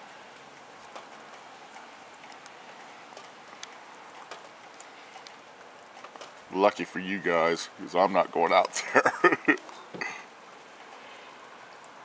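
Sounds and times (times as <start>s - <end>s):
raindrops ticking: 0.0s - 12.0s
steady rain hiss: 0.0s - 12.0s.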